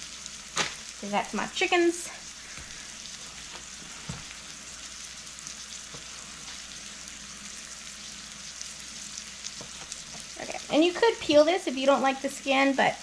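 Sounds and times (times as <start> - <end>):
vegetables sizzling in a skillet: 0.0 - 13.0.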